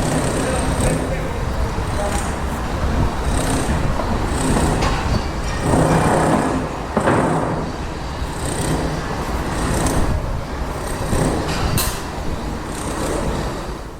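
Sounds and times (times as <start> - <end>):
harsh burst of noise: 0.0 - 13.9
heavy machinery rumbling: 0.0 - 13.9.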